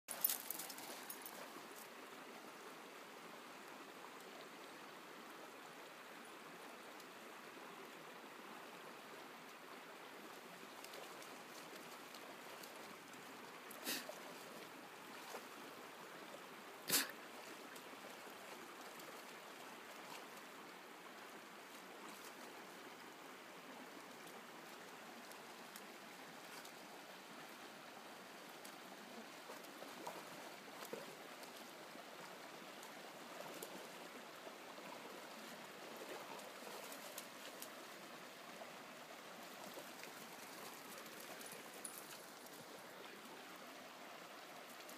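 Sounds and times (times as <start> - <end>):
shallow river running: 0.1 - 44.9.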